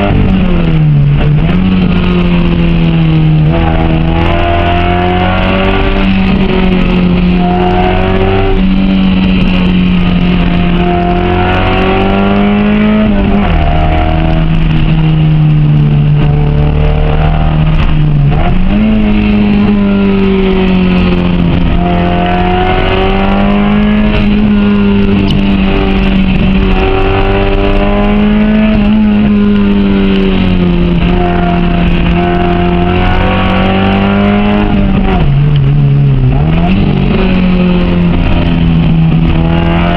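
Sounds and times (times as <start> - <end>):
car engine revving under load: 0.0 - 39.9.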